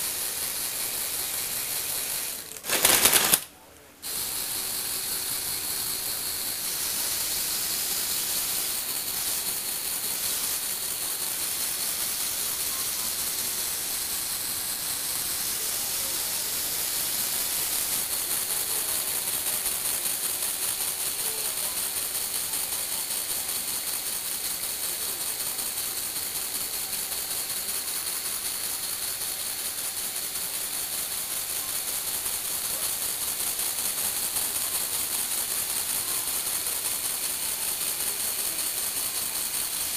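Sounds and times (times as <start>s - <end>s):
electric motors and gears whirring: 0.0s - 39.9s.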